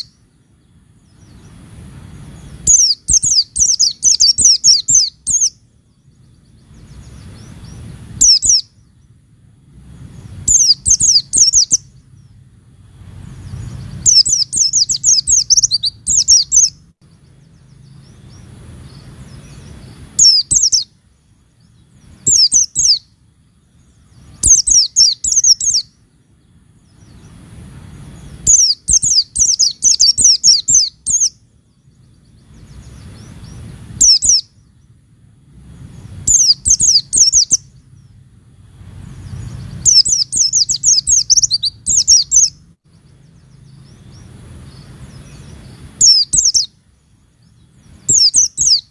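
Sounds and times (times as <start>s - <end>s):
bird twittering: 0.0s - 9.2s, 9.9s - 26.1s, 26.8s - 34.9s, 35.7s - 48.9s
low hum: 0.0s - 48.3s.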